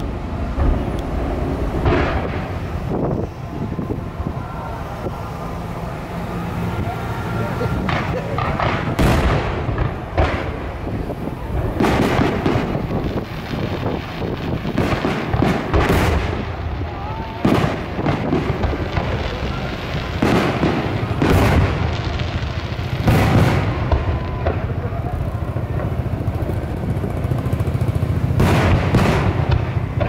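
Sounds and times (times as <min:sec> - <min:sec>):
steady low rumble: 0:00.0 - 0:30.0
firework shells booming: 0:00.1 - 0:03.8, 0:07.5 - 0:30.0.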